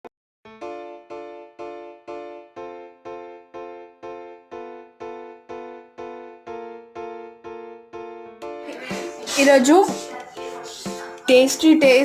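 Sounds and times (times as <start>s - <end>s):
electric piano repeated chords: 0.4s - 12.0s.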